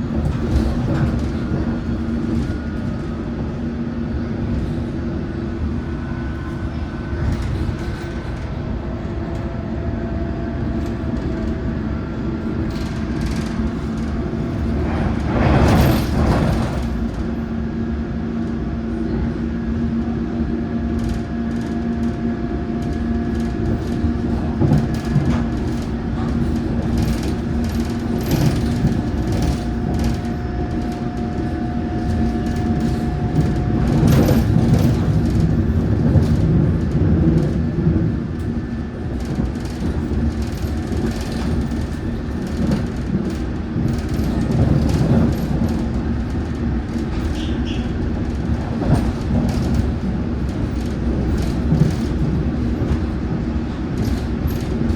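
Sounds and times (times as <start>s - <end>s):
train rumbling: 0.0s - 54.9s.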